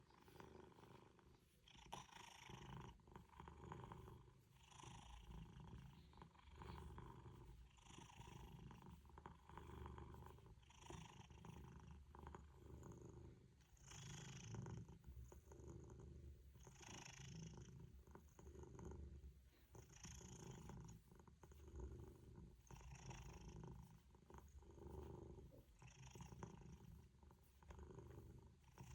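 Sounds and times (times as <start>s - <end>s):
cat purring: 0.0s - 28.9s.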